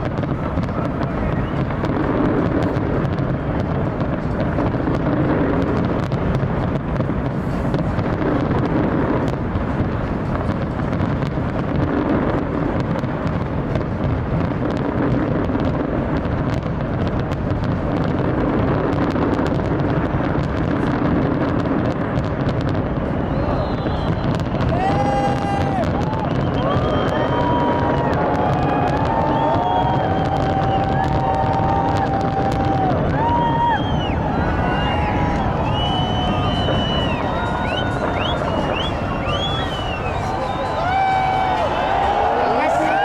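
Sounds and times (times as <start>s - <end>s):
fireworks crackling: 0.0s - 43.0s
fireworks rumbling: 0.0s - 43.0s.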